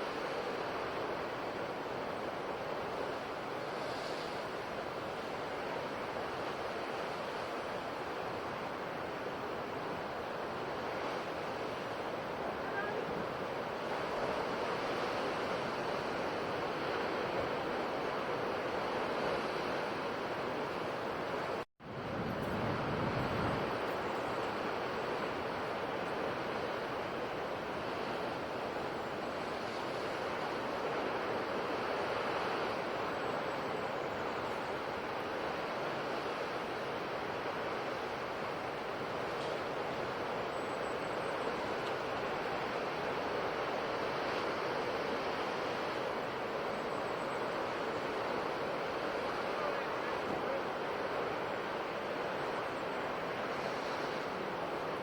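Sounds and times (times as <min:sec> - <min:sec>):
ocean waves on shore: 0:00.0 - 0:55.0.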